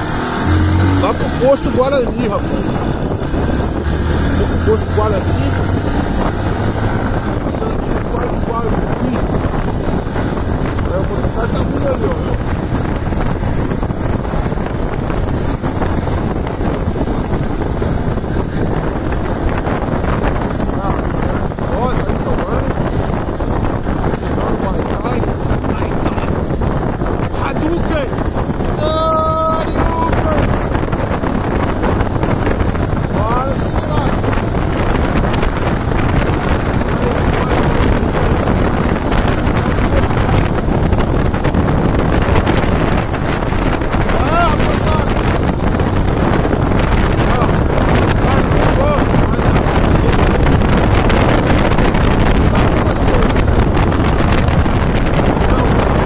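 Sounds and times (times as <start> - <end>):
motorcycle engine: 0.0 - 56.0
road noise: 0.0 - 56.0
wind buffeting microphone: 0.0 - 56.0.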